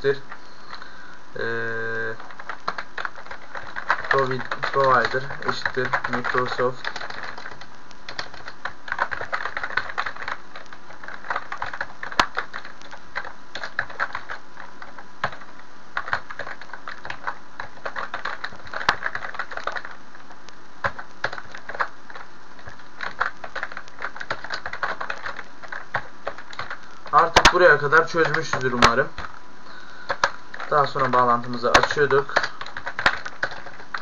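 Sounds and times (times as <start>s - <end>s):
steady background hiss: 0.0s - 34.0s
typing on computer keyboard: 0.7s - 20.0s, 20.8s - 34.0s.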